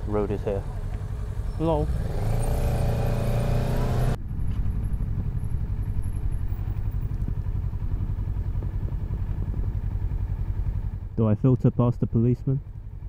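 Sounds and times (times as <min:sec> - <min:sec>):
motorcycle engine: 0:00.0 - 0:11.2, 0:11.8 - 0:13.0.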